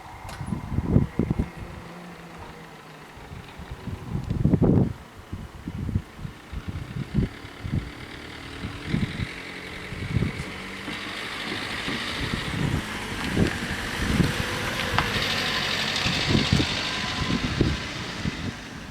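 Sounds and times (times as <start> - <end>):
vehicle engine and tyre noise: 0.0 - 18.9
wind buffeting microphone: 0.0 - 18.9.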